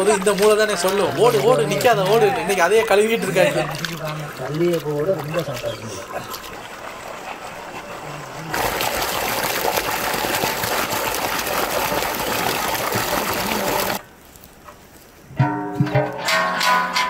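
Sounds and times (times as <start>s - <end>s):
water gushing from pipe: 0.0s - 14.0s
running water: 0.0s - 14.6s.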